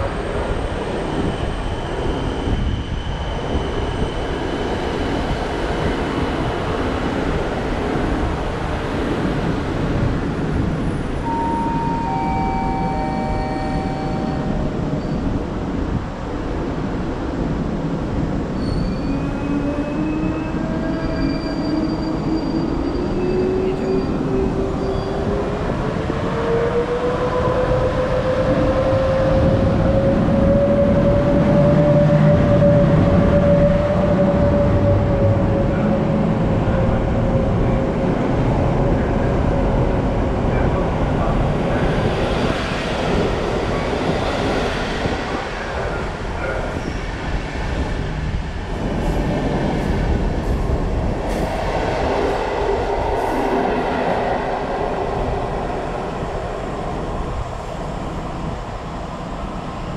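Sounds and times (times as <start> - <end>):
train carriages rumbling: 0.0 - 59.9
electric locomotive whine: 6.3 - 16.7, 18.6 - 59.9.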